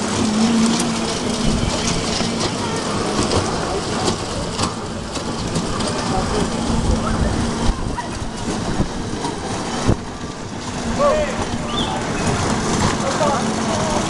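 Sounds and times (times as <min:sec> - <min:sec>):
ride cars rumbling: 0:00.0 - 0:14.0.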